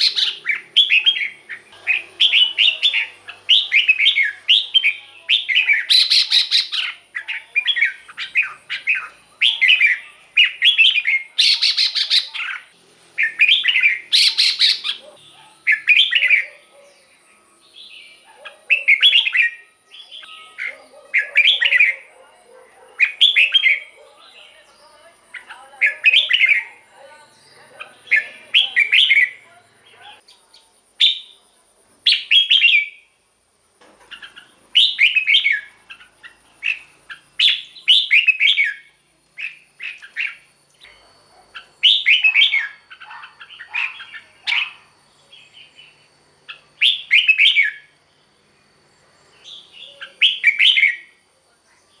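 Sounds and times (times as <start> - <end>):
bulbul singing: 0.0 - 31.5, 32.1 - 33.2, 34.0 - 51.3.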